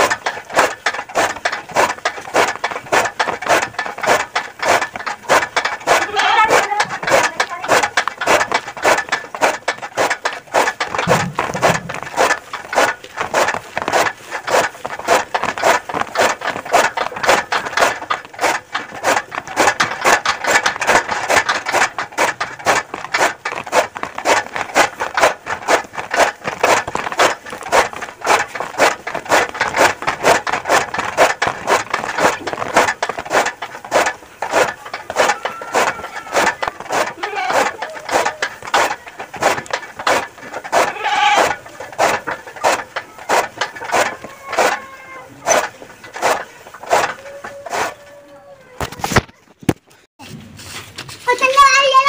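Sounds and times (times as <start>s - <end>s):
chaff cutter chopping fodder: 0.0s - 48.2s.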